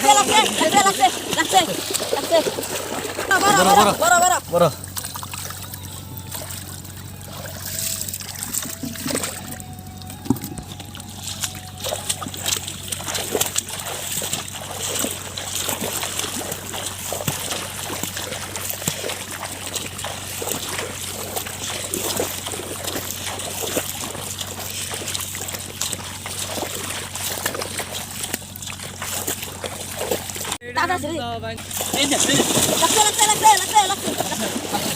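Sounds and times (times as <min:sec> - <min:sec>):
shallow water splashing: 0:00.0 - 0:30.6, 0:31.6 - 0:34.9
water trickling: 0:00.0 - 0:30.6.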